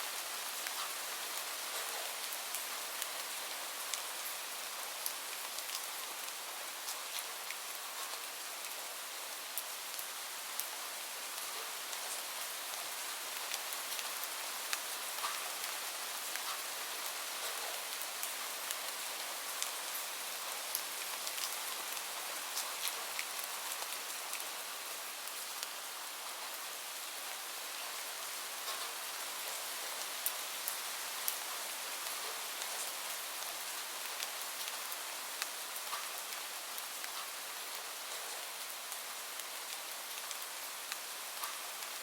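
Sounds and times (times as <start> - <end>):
steady rain hiss: 0.0 - 42.0
raindrops ticking on surface: 0.2 - 8.8, 9.5 - 26.5, 27.2 - 42.0.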